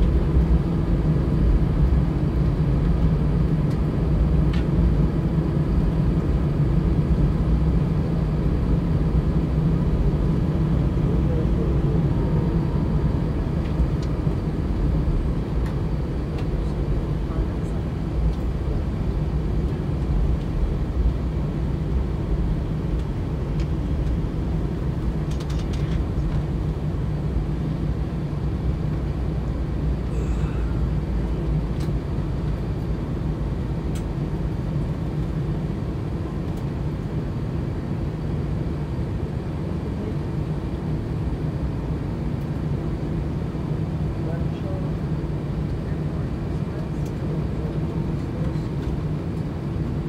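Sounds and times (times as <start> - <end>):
jet engines rumbling in cabin: 0.0 - 50.0.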